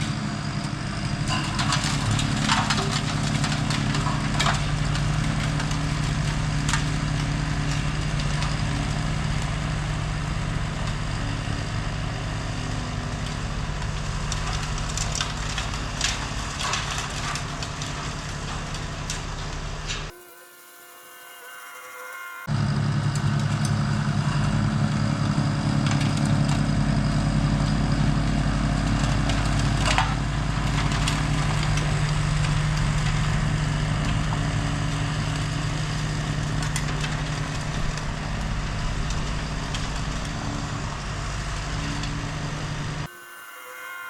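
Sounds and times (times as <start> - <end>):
diesel tractor engine running: 0.0 - 20.2, 22.4 - 44.0
snowblower chewing through snow: 0.0 - 44.0.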